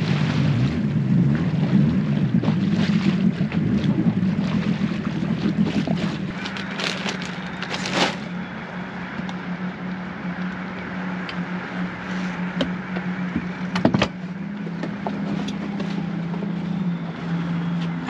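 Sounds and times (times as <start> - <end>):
outboard motor running: 0.0 - 18.0
water noise: 0.0 - 18.0
wind: 0.0 - 18.0.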